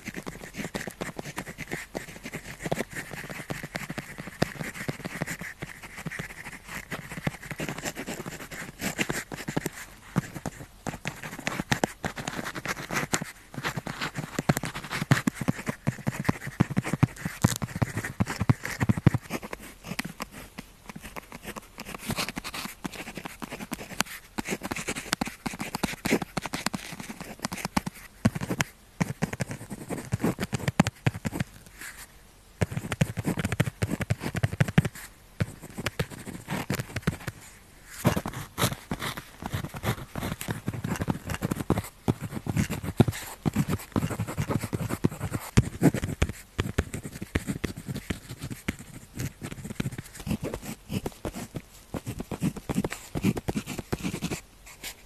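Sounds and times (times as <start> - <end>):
pen writing on paper: 0.0 - 31.5, 32.6 - 37.4, 38.0 - 55.0.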